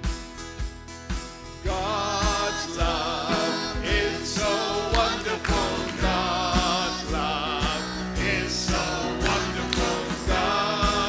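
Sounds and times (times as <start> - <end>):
worship song with band: 0.0 - 11.0.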